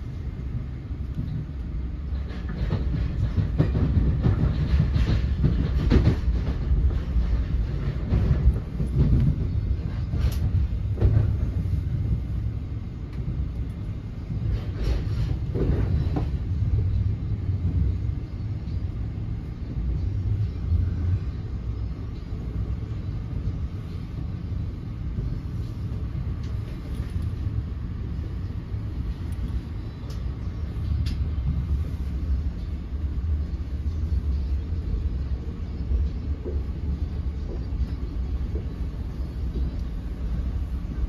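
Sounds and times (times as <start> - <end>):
train wheels rumbling: 0.0 - 41.0.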